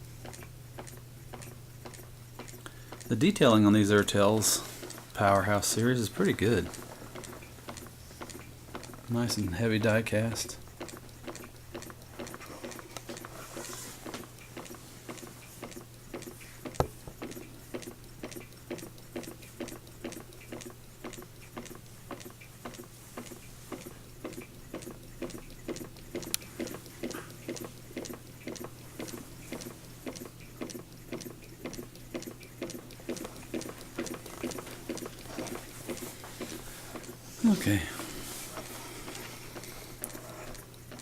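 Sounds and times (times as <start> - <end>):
steady low hum: 0.0 - 41.0
toy steam engine clicking: 0.2 - 37.2, 38.5 - 41.0.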